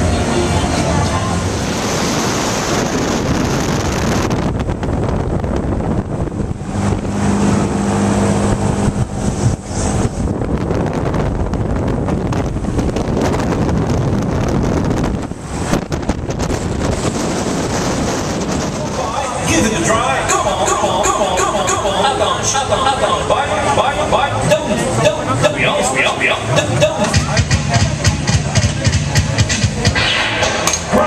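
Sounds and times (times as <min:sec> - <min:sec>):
wind buffeting microphone: 0:00.0 - 0:29.8.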